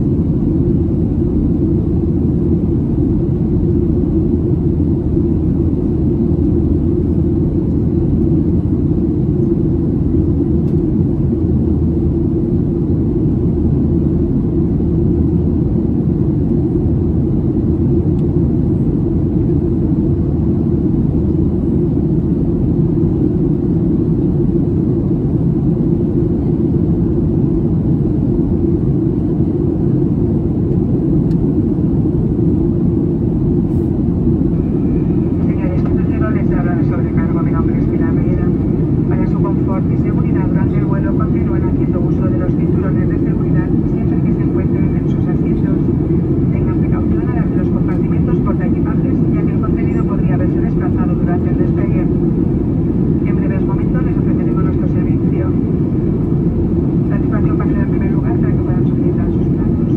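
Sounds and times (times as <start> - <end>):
airplane cabin low rumble: 0.0 - 59.9.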